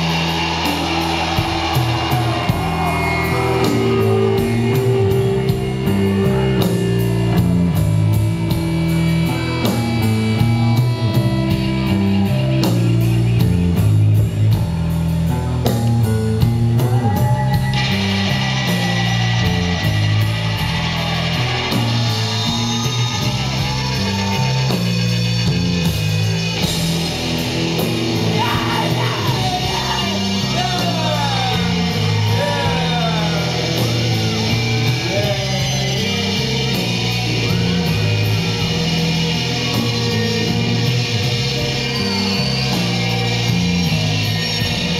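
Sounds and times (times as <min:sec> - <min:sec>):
bass guitar: 0:00.0 - 0:44.9
drums: 0:00.0 - 0:44.9
electric guitar: 0:00.0 - 0:44.9.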